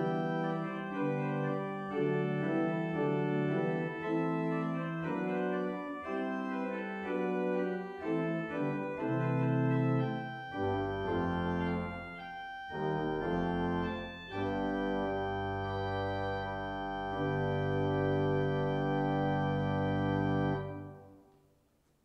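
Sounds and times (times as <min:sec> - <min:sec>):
church organ chords: 0:00.0 - 0:21.2.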